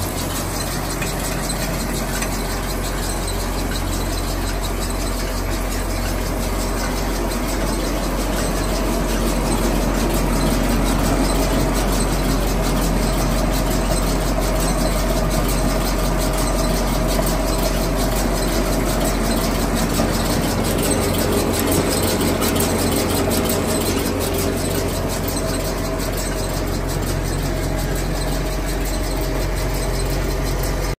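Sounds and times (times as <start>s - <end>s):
baler mechanical racket: 0.0s - 31.0s
fast even ticking: 0.0s - 31.0s
steady whine: 0.0s - 31.0s
tractor engine: 0.0s - 31.0s.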